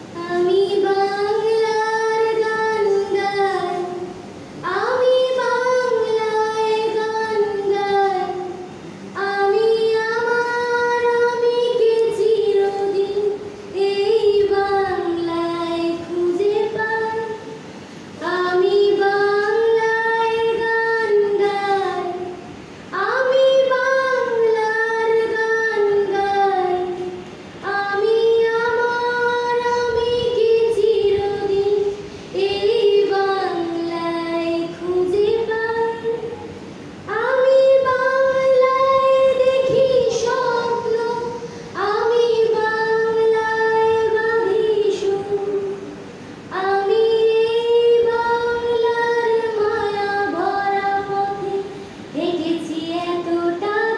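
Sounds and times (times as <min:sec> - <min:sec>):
woman singing unaccompanied: 0:00.0 - 0:53.9.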